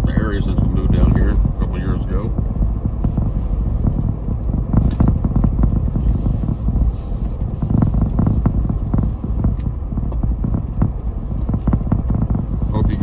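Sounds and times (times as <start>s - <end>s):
car tyres and engine rumble: 0.0s - 13.0s
small knocks and bumps: 0.5s - 13.0s.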